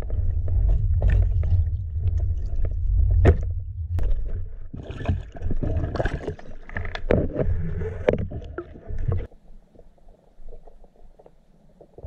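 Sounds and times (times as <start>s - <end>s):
underwater water noise: 0.0s - 12.0s.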